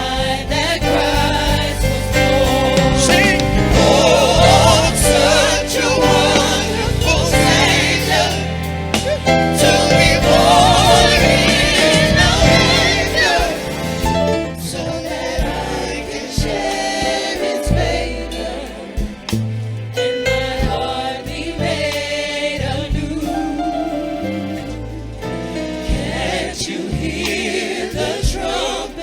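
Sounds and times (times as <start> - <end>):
gospel choir singing: 0.0 - 29.0
instrumental accompaniment: 0.0 - 29.0.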